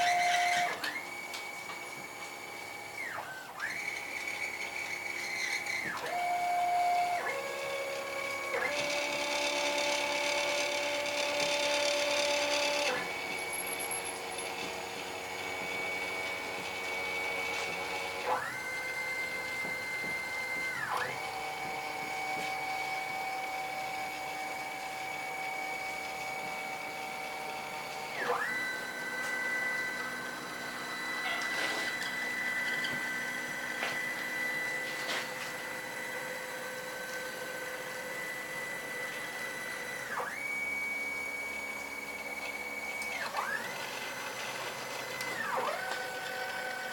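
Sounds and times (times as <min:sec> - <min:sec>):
stepper motors whining: 0:00.0 - 0:46.9.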